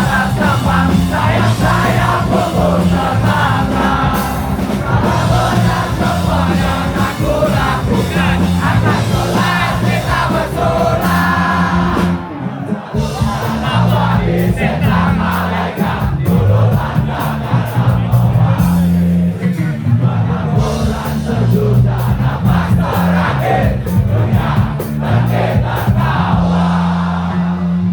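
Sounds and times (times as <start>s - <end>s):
crowd singing and shouting: 0.0s - 27.9s
punk rock band playing live: 0.0s - 27.9s.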